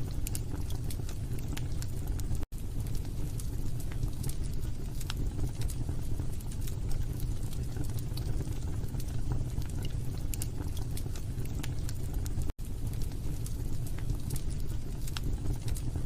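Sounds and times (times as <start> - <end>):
fire crackles and pops: 0.0 - 16.0
fire flames rumbling: 0.0 - 16.0.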